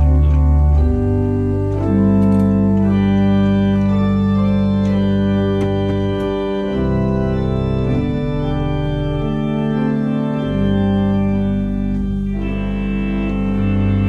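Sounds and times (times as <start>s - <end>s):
pipe organ chords: 0.0s - 14.0s.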